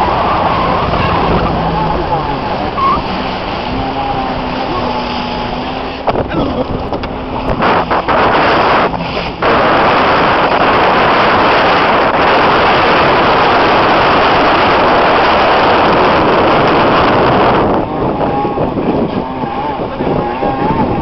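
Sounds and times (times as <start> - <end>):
jet ski engine whine: 0.0 - 21.0
water noise: 0.0 - 21.0
wind rushing on microphone: 0.0 - 21.0.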